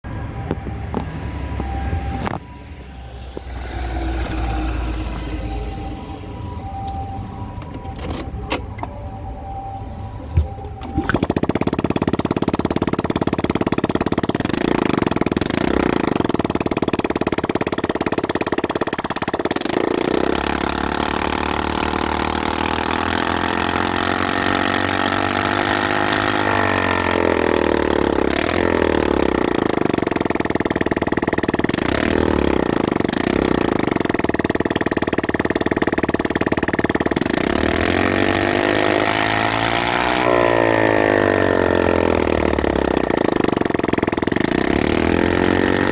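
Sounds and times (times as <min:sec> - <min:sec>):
unmuffled moped engine revving: 0:00.0 - 0:45.9.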